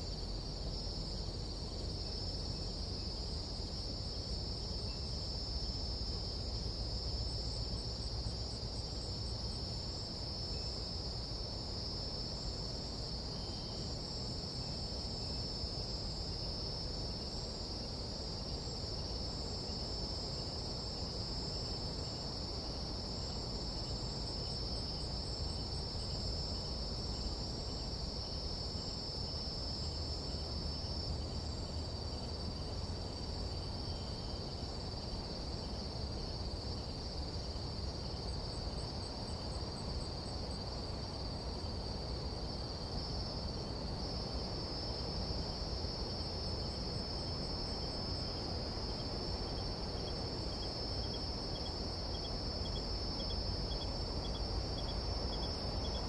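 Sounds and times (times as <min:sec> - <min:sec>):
high-pitched insect trill: 0:00.0 - 0:56.0
insects chirping: 0:00.0 - 0:56.0.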